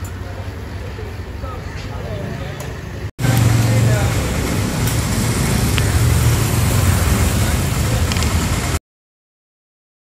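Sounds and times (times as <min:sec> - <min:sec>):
street traffic noise: 0:00.0 - 0:08.8
vehicle engine humming: 0:00.0 - 0:08.8.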